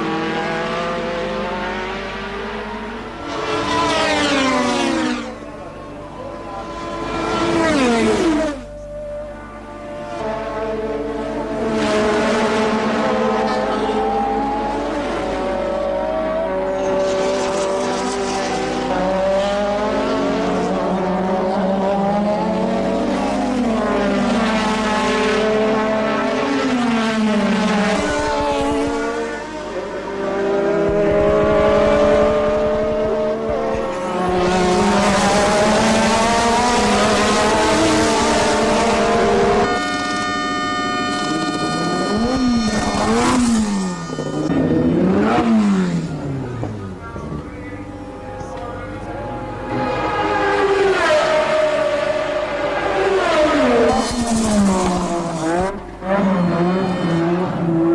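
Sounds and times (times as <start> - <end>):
race car engines revving: 0.0 - 57.9.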